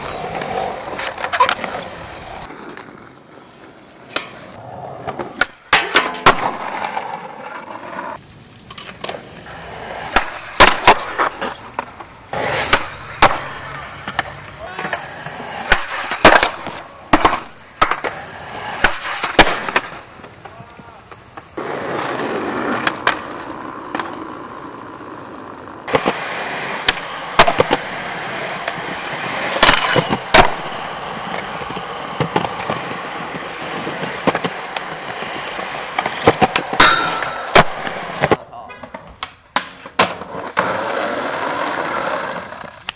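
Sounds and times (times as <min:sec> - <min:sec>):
skateboard clacking: 0:00.0 - 0:42.9
skateboard wheels rolling on concrete: 0:00.0 - 0:42.9.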